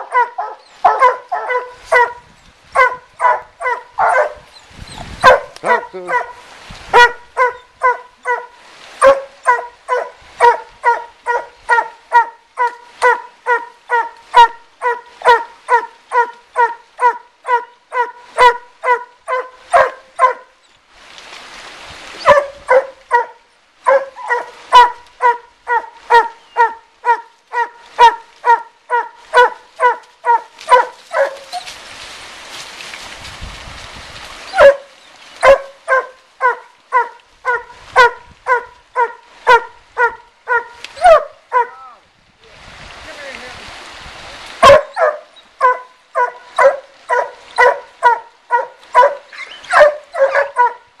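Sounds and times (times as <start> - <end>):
dog barking: 0.0 - 2.2, 2.8 - 4.5, 5.2 - 20.5, 22.2 - 31.7, 34.5 - 41.8, 44.6 - 50.9.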